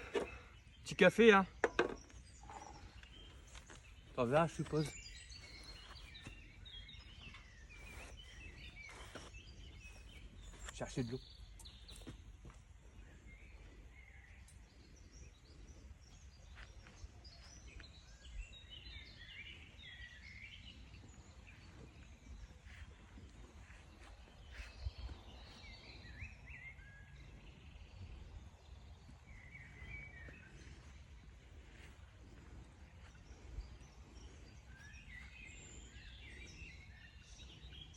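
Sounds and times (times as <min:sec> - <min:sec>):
faint birdsong: 0:00.0 - 0:37.9.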